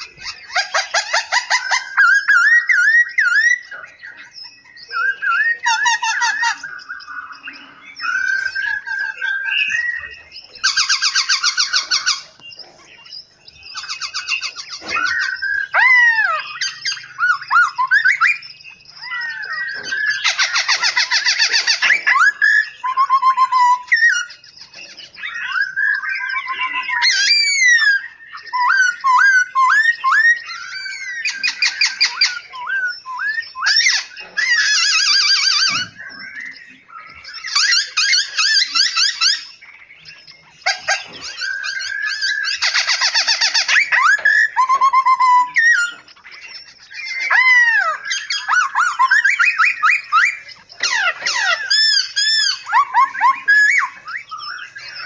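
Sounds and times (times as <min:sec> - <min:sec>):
loud fast bird trills: 0:00.0 - 0:55.0
songbirds singing: 0:00.0 - 0:55.0.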